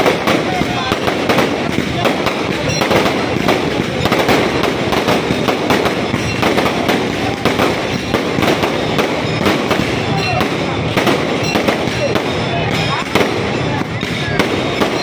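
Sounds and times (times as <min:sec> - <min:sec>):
fireworks bursting: 0:00.0 - 0:15.0
fireworks crackle: 0:00.0 - 0:15.0.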